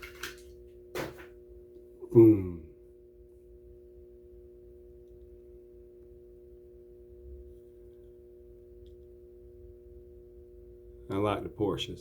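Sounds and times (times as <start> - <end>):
faint hum of held tones: 0.0 - 12.0.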